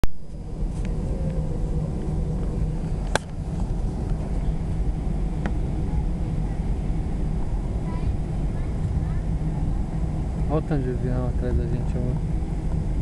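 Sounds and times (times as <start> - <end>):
jet engines heard in cabin: 0.0 - 13.0.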